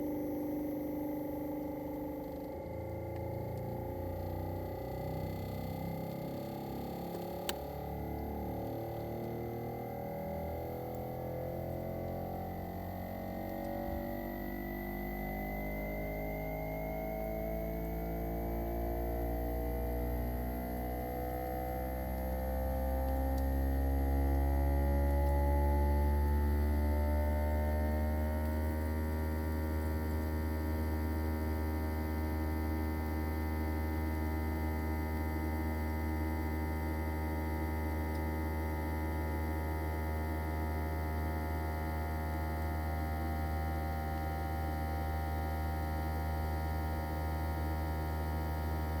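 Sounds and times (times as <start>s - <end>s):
compressor humming whine rising: 0.0s - 49.0s.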